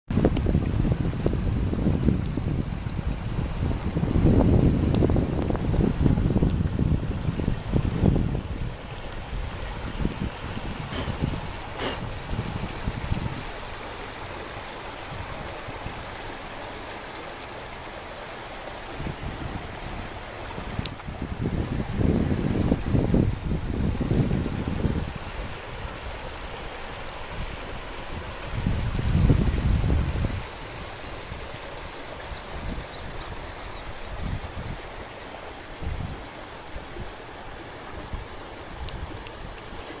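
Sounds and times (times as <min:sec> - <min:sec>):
wind gusts on microphone: 0:00.1 - 0:17.2, 0:18.2 - 0:40.0
water rushing over rocks: 0:00.1 - 0:40.0.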